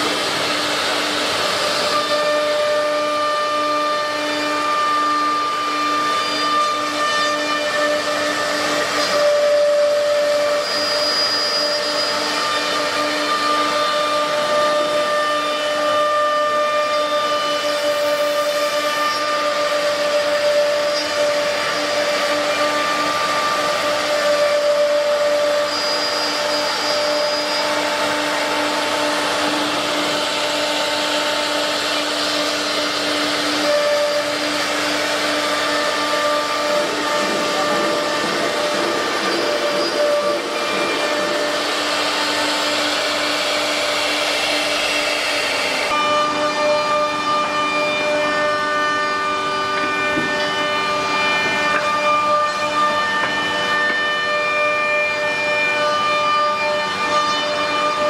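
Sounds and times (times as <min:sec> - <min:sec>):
router spindle whine: 0:00.0 - 0:58.0.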